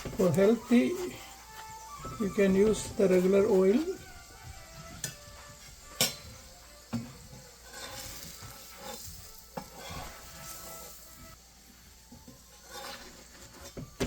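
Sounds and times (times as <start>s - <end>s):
flatbread sizzling on griddle: 0.0s - 14.0s.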